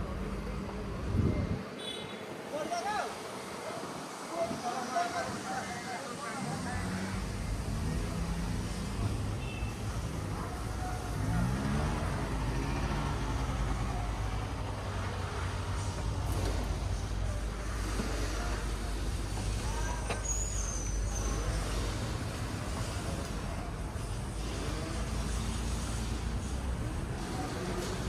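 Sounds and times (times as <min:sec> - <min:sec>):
faint voices: 0:00.0 - 0:28.0
low rumble of vehicle engines: 0:00.0 - 0:28.0.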